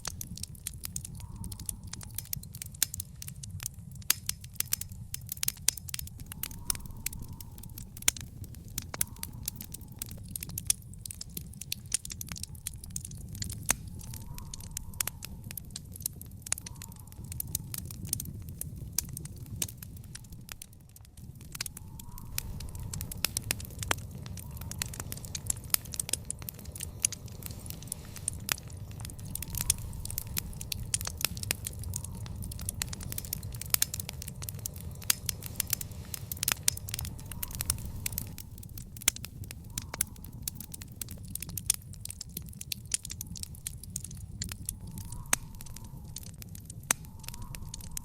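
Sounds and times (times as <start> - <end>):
low fire rumble: 0.0 - 48.0
wood fire crackling and popping: 0.0 - 48.0.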